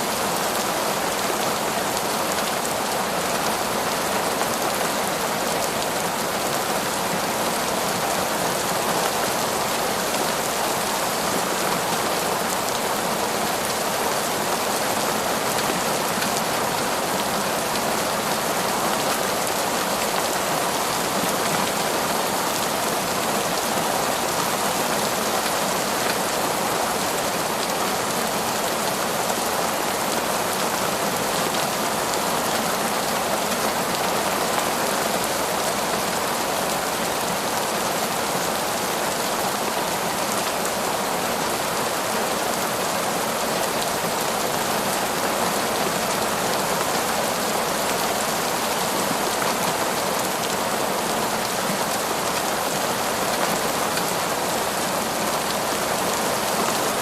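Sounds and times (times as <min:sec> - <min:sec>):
heavy rain falling through trees: 0:00.0 - 0:57.0.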